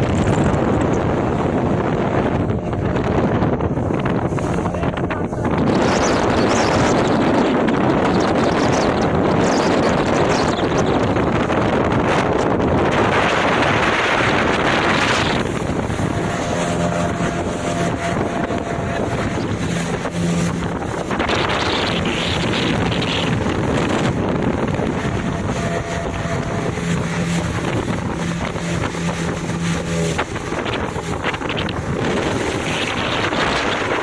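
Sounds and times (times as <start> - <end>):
motor humming: 0.0 - 34.0
wind buffeting microphone: 0.0 - 34.0.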